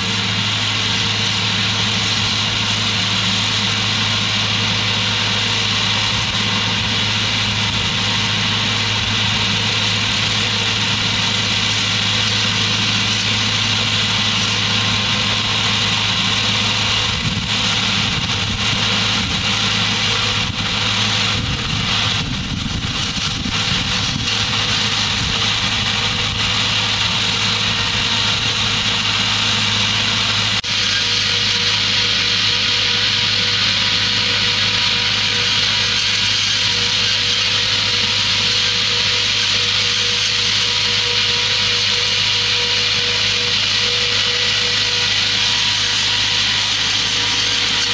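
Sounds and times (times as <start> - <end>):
dense hiss: 0.0 - 47.9
tractor engine running: 0.0 - 47.9.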